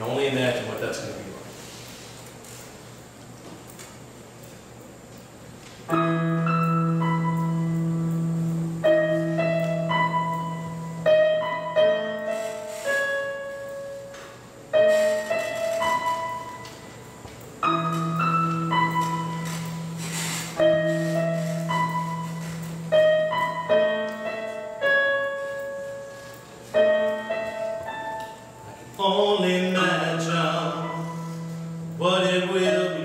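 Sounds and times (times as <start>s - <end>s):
digital piano slow chords: 4.3s - 33.0s.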